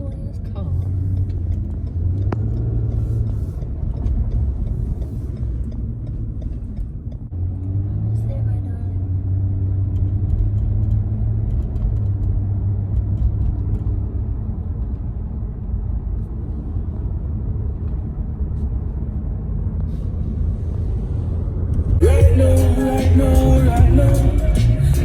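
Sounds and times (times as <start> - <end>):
large vehicle engine rumbling: 0.0 - 25.0.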